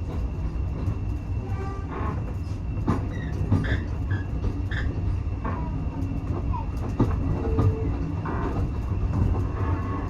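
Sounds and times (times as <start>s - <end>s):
railway coach rumbling on track: 0.0s - 10.0s.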